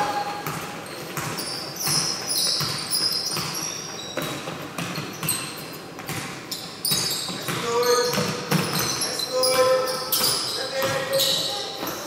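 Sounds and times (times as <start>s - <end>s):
basketball bouncing on court: 0.0s - 12.0s
sneaker squeaks: 0.0s - 12.0s.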